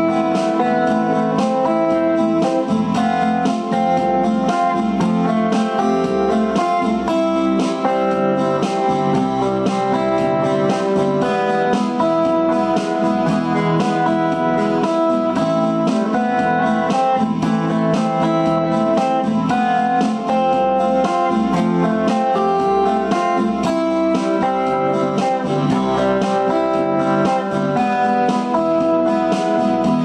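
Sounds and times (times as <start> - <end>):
plucked guitar music: 0.0 - 30.0.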